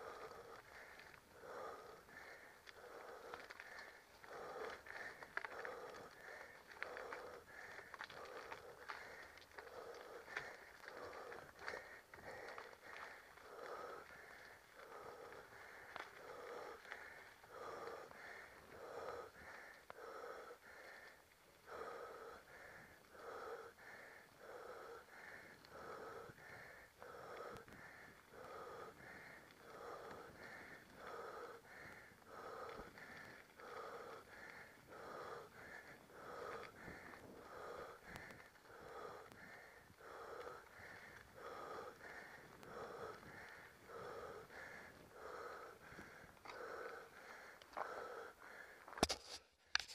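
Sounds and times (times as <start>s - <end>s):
person panting hard: 0.0s - 49.4s.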